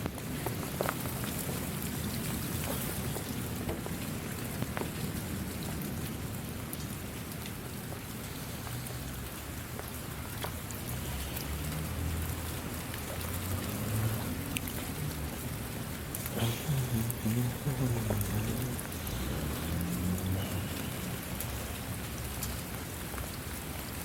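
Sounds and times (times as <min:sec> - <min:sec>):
raindrops striking close by: 0:00.0 - 0:24.0
steady rain falling: 0:00.0 - 0:24.0.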